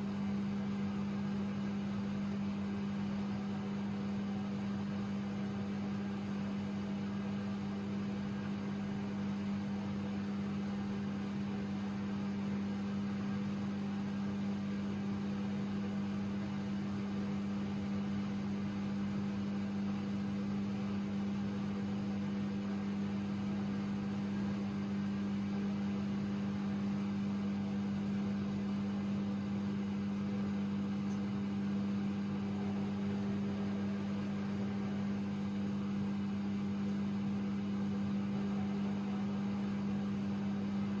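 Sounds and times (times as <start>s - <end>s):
washing machine humming: 0.0s - 41.0s.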